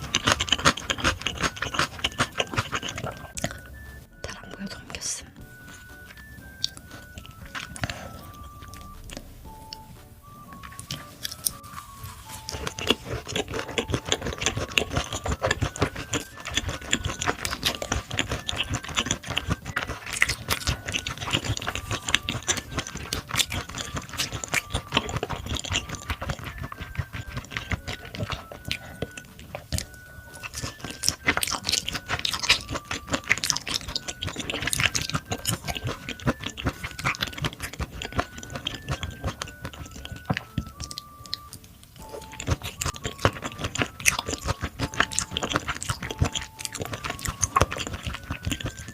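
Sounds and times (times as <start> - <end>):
person chewing and biting food: 0.0 - 48.9
simple background music melody: 0.0 - 48.9.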